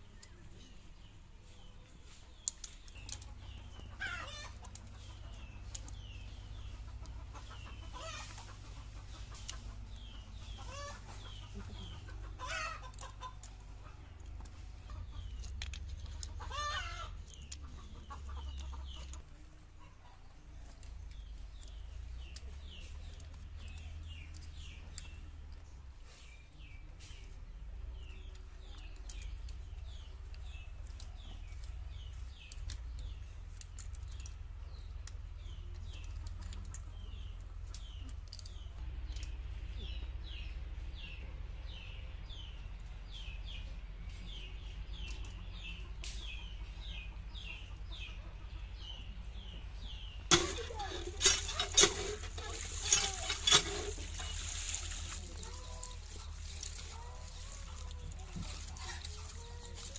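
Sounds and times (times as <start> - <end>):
chickens clucking: 0.0 - 59.9
small birds chirping: 0.0 - 59.9.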